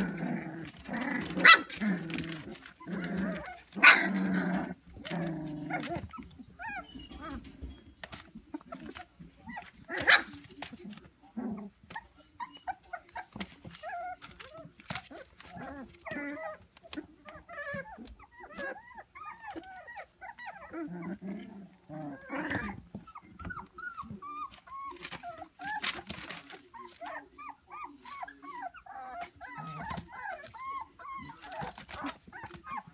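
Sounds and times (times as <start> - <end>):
puppies whimpering and squeaking: 0.0 - 32.9.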